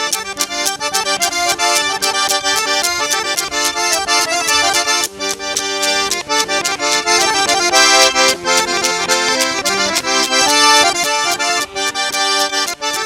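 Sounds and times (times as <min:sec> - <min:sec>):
accordion music with fast beat: 0:00.0 - 0:13.0.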